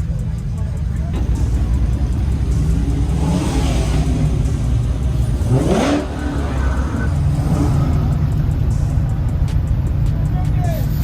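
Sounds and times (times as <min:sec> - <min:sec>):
car engine rumbling and revving: 0:00.0 - 0:11.0.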